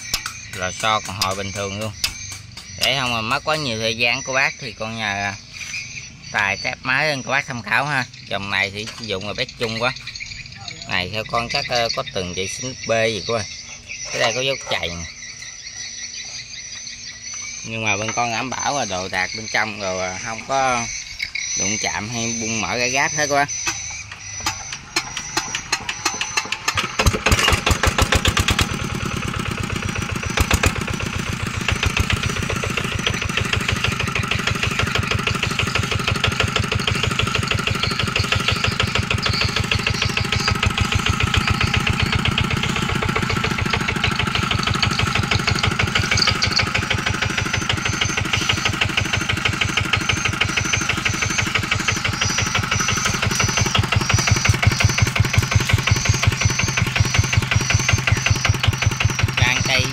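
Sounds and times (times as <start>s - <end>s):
diesel engine starting and running: 0.0s - 59.9s.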